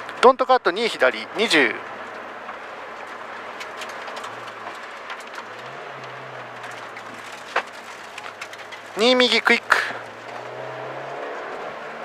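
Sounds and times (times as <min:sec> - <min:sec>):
ticks and rattles: 0:00.0 - 0:11.7
car engine at speed: 0:00.8 - 0:12.0.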